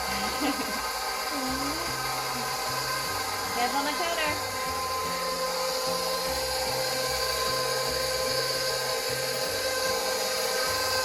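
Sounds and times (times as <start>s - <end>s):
electric mixer whining: 0.0s - 11.0s.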